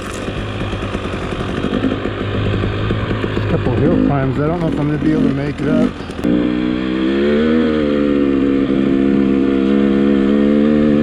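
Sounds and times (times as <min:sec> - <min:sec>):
dirt bike engine pulling: 0:00.0 - 0:11.0.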